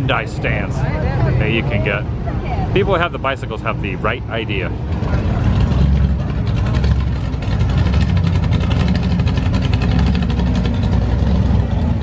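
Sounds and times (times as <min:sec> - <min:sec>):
exhaust pulsing: 0:00.0 - 0:12.0
vehicle engine rumbling: 0:00.0 - 0:12.0.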